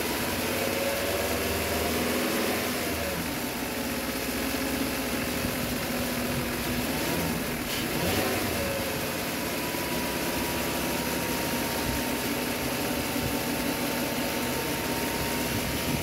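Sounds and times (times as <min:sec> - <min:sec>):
car engine idling: 0:02.7 - 0:16.0.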